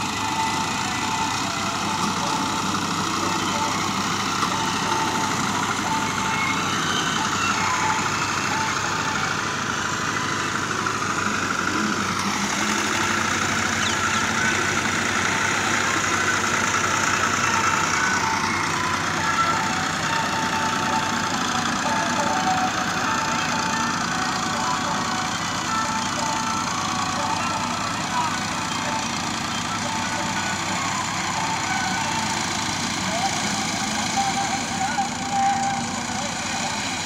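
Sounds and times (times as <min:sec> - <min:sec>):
diesel tractor engines under load: 0:00.0 - 0:37.0.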